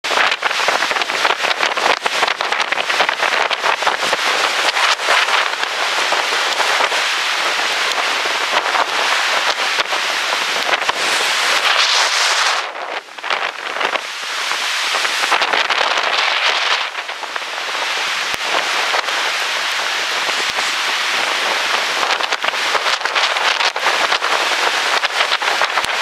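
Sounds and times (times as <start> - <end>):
storm wind on microphone: 0.0 - 26.0
raindrops clicking on camera: 0.1 - 26.0.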